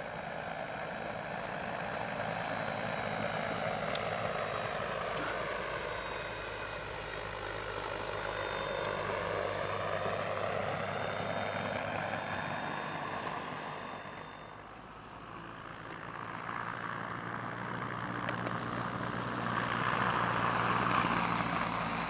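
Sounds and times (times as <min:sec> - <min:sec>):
high thin electric whine: 0:00.0 - 0:14.8, 0:18.4 - 0:22.0.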